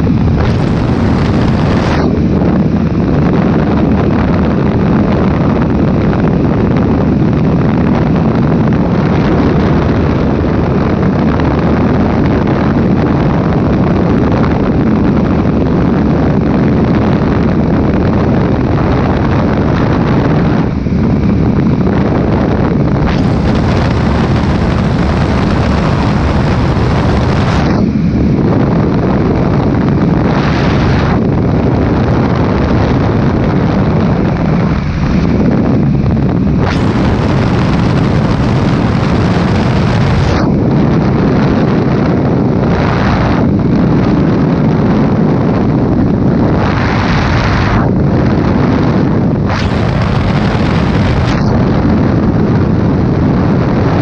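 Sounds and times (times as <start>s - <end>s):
light aircraft engine running: 0.0s - 54.0s
wind buffeting on microphone: 0.0s - 54.0s.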